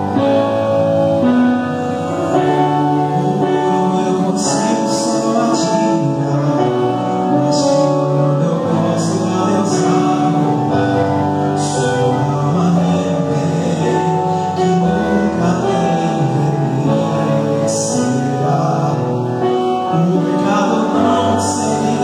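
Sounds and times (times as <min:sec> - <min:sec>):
instrumental accompaniment: 0:00.0 - 0:22.0
men singing gospel song: 0:01.9 - 0:22.0.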